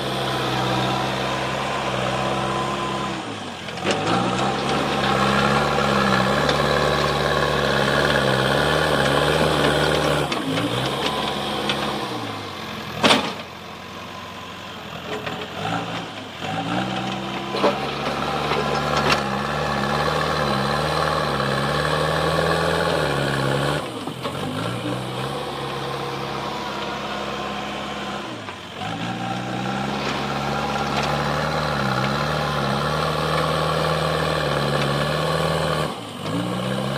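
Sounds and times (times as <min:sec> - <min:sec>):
backhoe diesel engine working: 0:00.0 - 0:36.9.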